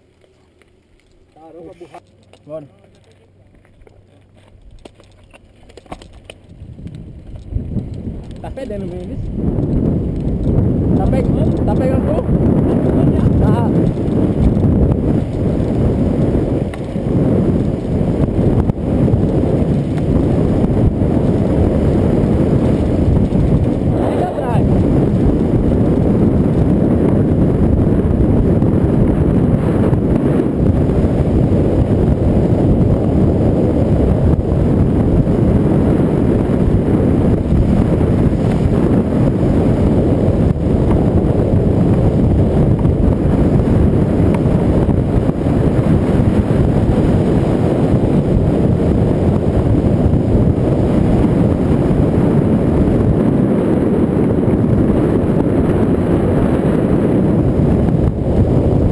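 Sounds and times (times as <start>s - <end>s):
wind buffeting microphone: 1.3s - 58.9s.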